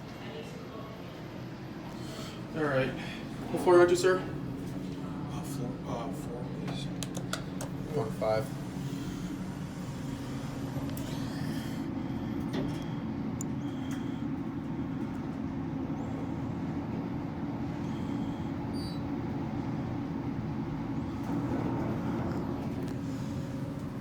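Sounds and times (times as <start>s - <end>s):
elevator cab humming: 1.0s - 24.0s.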